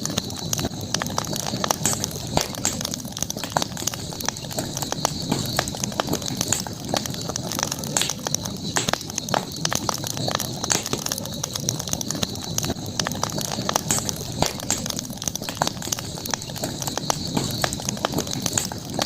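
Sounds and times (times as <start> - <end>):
campfire crackling and popping: 0.0 - 19.0
high-pitched hiss: 0.0 - 19.0
low rumble of flame: 0.0 - 19.0.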